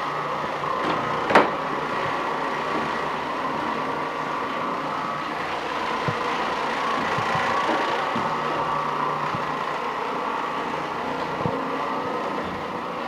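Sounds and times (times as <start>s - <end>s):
floor-cleaning machine whirring: 0.0s - 13.0s.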